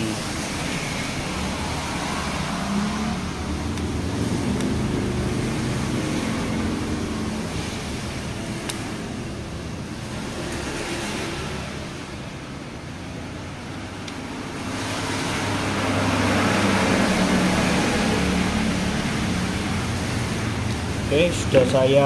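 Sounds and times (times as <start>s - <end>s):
passing traffic engine noise: 0.0s - 22.0s.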